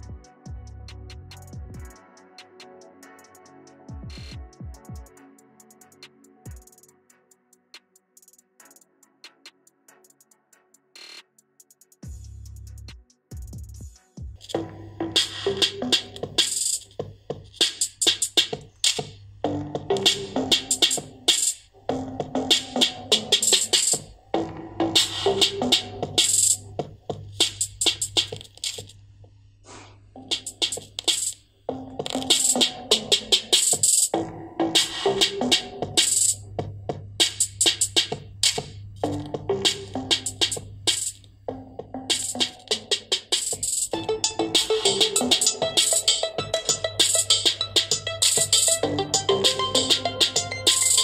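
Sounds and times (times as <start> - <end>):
electronic music with drum machine: 0.0 - 29.0, 29.7 - 51.0.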